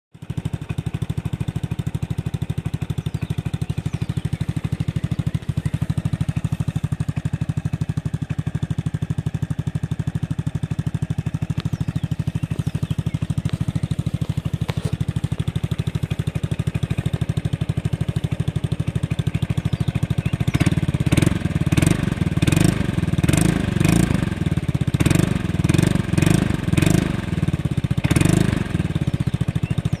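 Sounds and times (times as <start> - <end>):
scooter engine idling and revving: 0.1 - 30.0.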